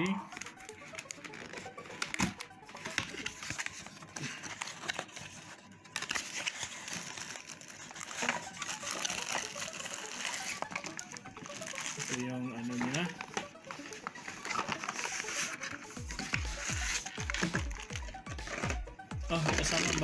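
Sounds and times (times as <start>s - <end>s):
plastic packaging crinkling: 0.3s - 20.0s.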